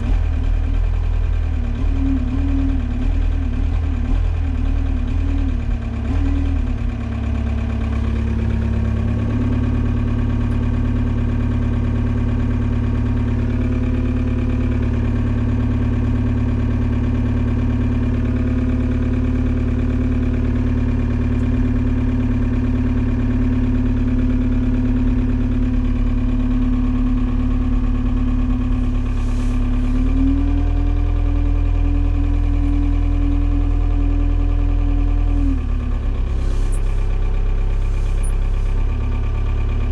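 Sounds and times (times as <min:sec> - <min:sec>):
forklift hum: 0:00.0 - 0:39.9.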